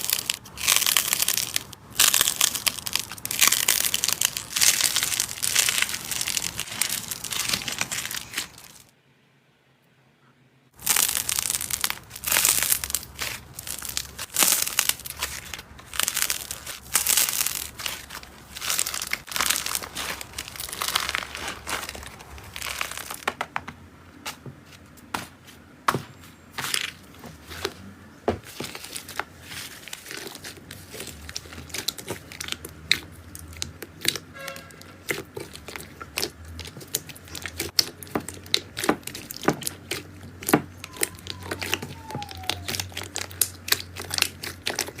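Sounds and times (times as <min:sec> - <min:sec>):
slime popping and crackling: 0:00.0 - 0:08.9, 0:10.8 - 0:23.4, 0:28.5 - 0:45.0.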